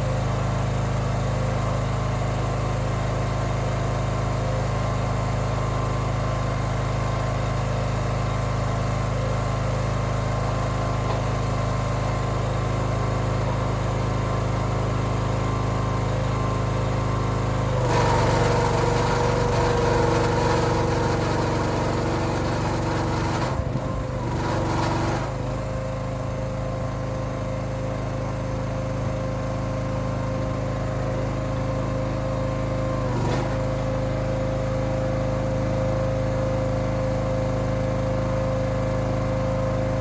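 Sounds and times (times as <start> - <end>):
small engine running: 0.0 - 40.0.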